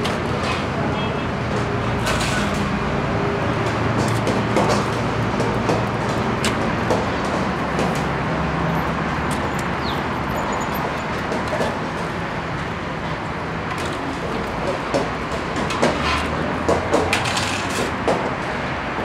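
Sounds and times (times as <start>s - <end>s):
road traffic rumble and hiss: 0.0s - 19.0s.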